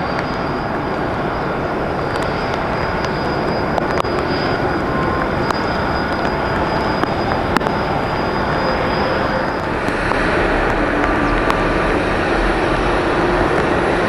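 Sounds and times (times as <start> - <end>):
jet engines whining and rumbling: 0.0 - 14.0
rain hissing: 0.0 - 14.0.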